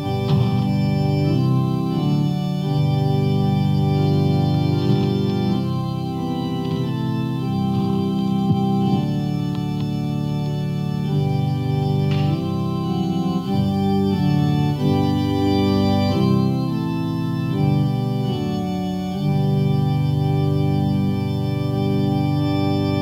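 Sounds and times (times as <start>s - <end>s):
organ playing slow chords: 0.0s - 23.0s.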